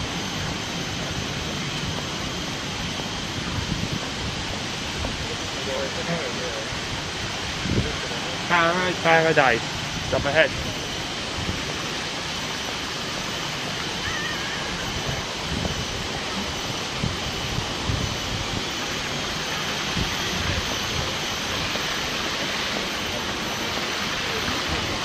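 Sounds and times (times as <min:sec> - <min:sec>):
steady outdoor rushing noise: 0:00.0 - 0:25.0.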